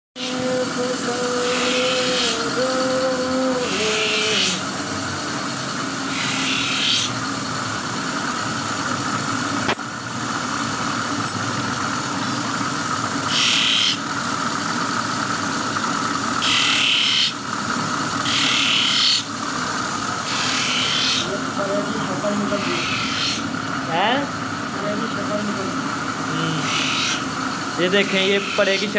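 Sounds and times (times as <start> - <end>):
blade grinding bursts: 0.2 - 28.9
grinding wheel running: 0.2 - 28.9.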